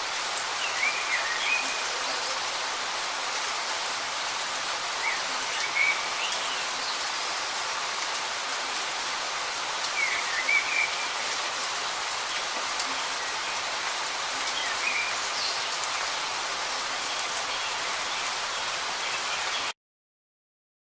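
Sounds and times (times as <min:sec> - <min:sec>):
light rain falling: 0:00.0 - 0:19.8.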